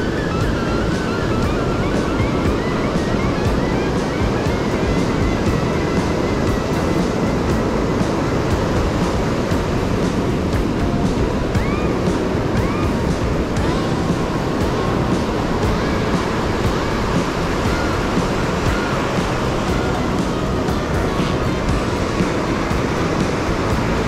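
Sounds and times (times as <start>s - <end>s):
high rising and falling whistles: 0.0s - 24.0s
ocean surf breaking: 0.0s - 24.0s.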